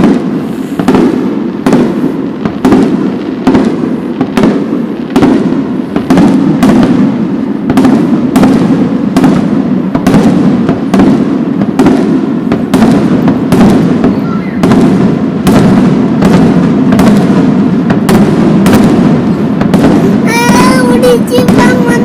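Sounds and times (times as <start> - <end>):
fireworks crackling and booming: 0.0 - 22.0
fireworks shells bursting: 0.0 - 22.0.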